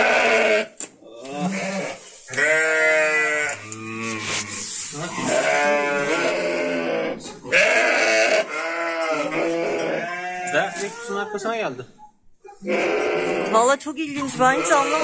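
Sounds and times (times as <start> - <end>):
sheep bleating: 0.0 - 11.4, 12.5 - 15.0.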